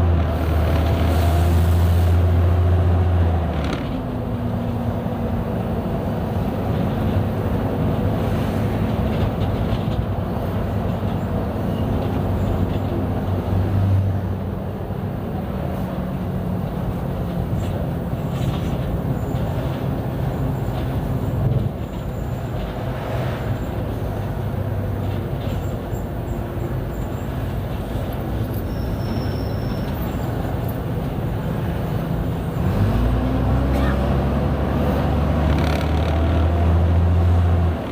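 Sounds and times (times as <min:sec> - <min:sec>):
bus diesel engine drone: 0:00.0 - 0:37.9.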